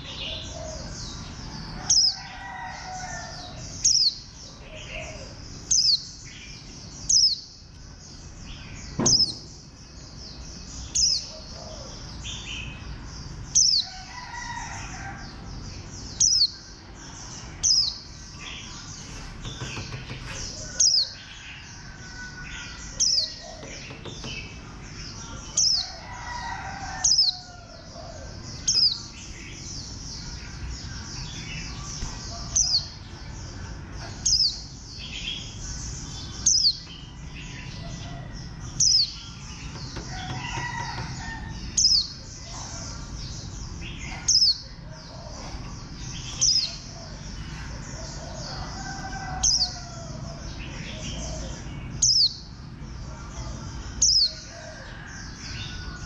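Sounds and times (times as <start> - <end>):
bird high twittering song: 0.0 - 56.0.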